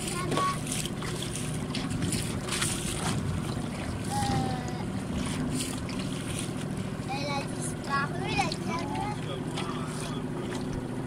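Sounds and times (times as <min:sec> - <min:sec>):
boat engine hum: 0:00.0 - 0:11.0
water splashing against hull: 0:00.0 - 0:11.0.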